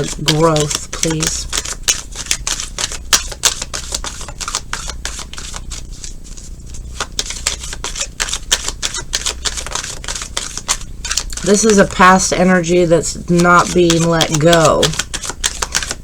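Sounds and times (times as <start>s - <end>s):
cards being shuffled: 0.0s - 16.0s
faint low hum: 0.0s - 16.0s.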